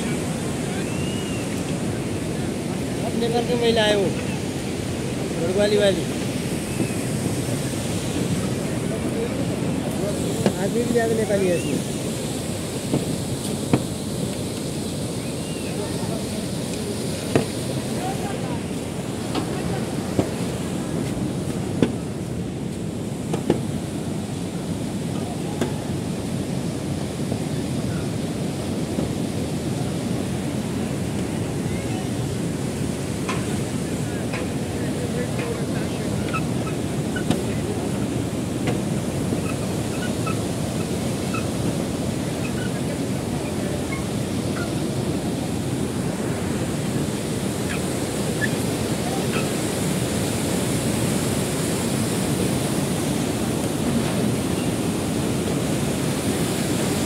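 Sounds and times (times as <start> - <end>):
river rushing over boulders: 0.0 - 57.0.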